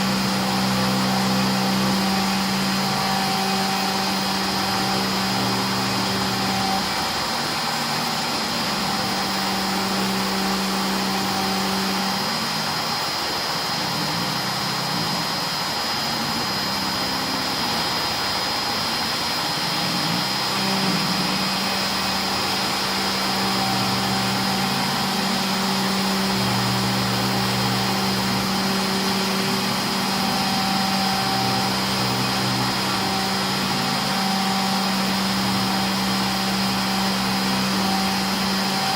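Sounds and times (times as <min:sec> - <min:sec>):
motor tones shifting pitch: 0:00.0 - 0:38.9
spindle high whine: 0:00.0 - 0:38.9.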